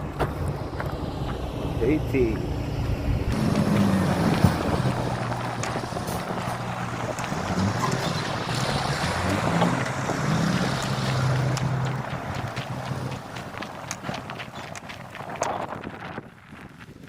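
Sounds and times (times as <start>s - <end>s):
road traffic engine hum: 0.0s - 17.0s
wind noise on microphone: 2.7s - 17.0s.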